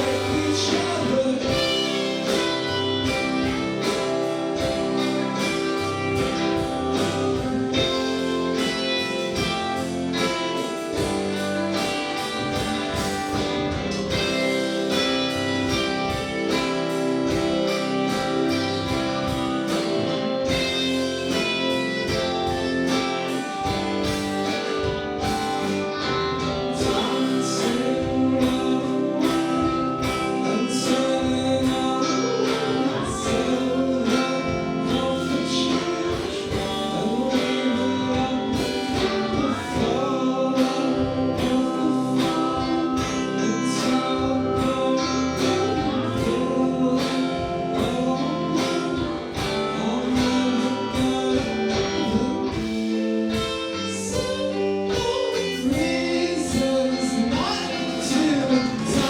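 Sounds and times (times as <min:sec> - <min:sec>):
drums: 0:00.0 - 0:59.0
electric guitar: 0:00.0 - 0:59.0
person singing: 0:00.0 - 0:59.0
rock band playing: 0:00.0 - 0:59.0.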